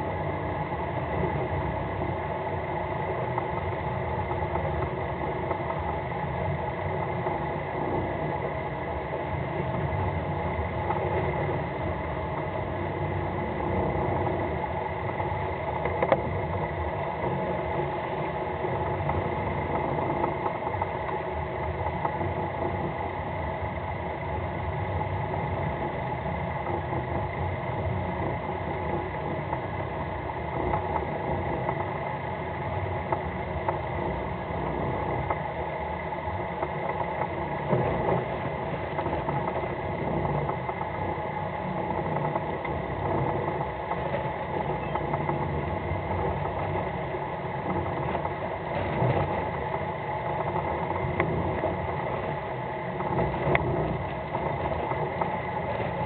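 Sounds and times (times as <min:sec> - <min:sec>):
boat engine running: 0:00.0 - 0:56.0
wind: 0:00.0 - 0:56.0.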